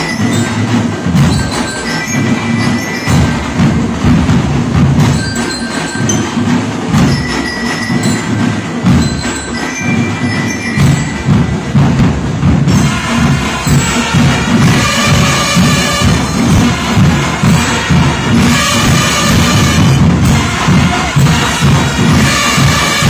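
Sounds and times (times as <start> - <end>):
bell lyres ringing a melody: 0.0 - 4.0, 5.0 - 20.0
drums keeping a steady beat: 0.0 - 23.0
marching band playing: 0.0 - 23.0.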